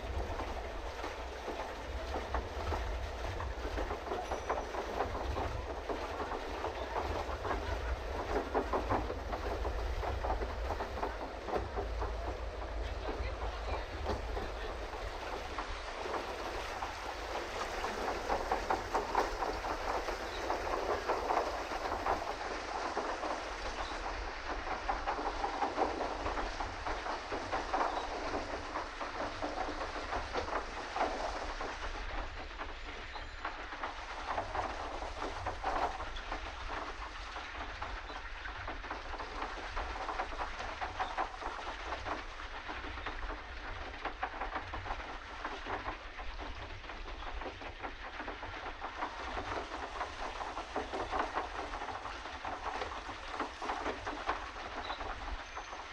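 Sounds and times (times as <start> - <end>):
paddle wheel splashing water: 0.0 - 55.9.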